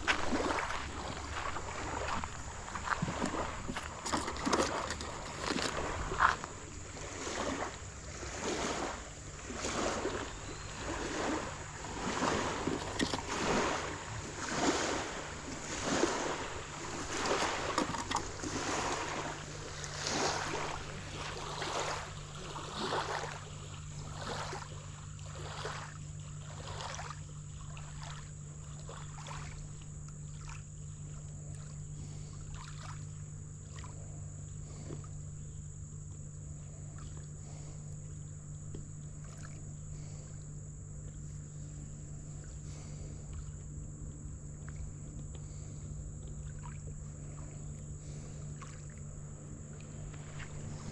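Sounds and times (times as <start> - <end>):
water swishing and splashing: 0.0 - 35.2, 36.5 - 50.9
low hum: 0.0 - 50.9.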